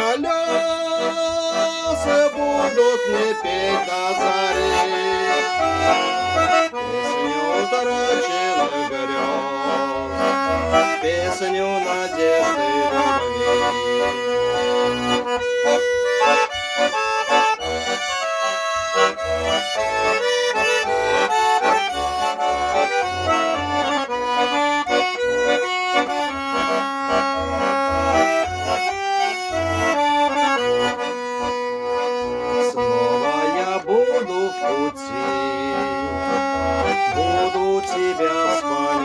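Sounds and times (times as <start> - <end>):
accordion playing: 0.0 - 39.0.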